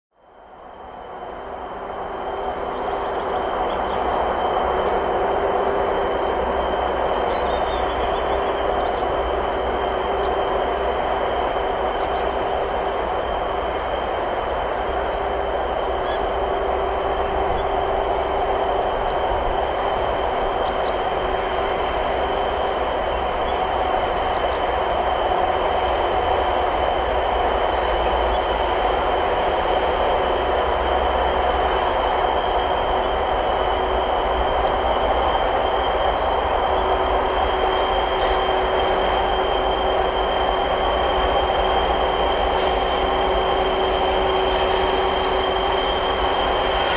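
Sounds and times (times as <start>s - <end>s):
diesel locomotive engine running: 0.1s - 46.9s.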